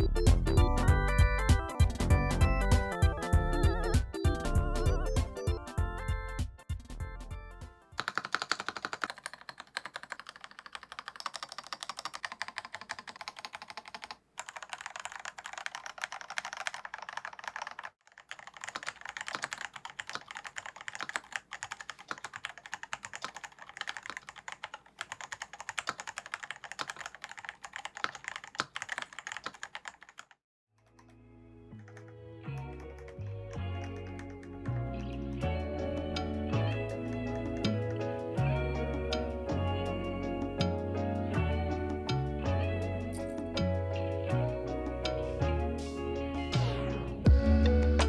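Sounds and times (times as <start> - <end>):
mechanical keyboard typing: 0.0 - 6.1, 7.9 - 31.1, 31.8 - 44.4.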